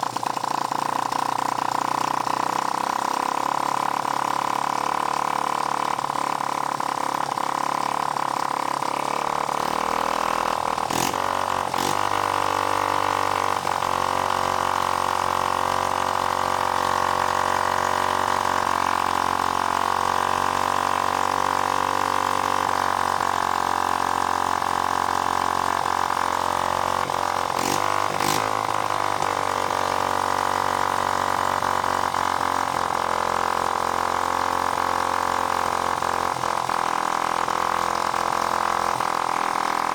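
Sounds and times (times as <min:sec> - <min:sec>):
small engine running lumpy: 0:00.0 - 0:39.9.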